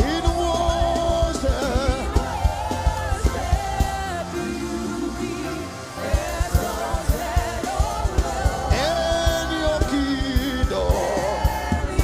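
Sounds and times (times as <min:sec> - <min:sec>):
band with steady drum beat: 0:00.0 - 0:12.0.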